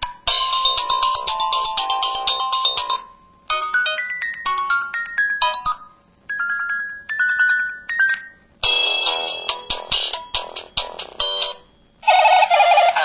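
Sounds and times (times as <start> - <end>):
phone ringtone melody: 0.2 - 13.0.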